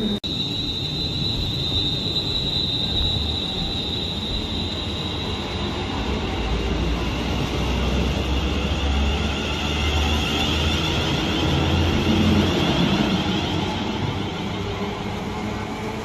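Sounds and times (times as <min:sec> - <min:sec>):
train high whine: 0:00.0 - 0:16.0
train rolling noise: 0:00.0 - 0:16.0.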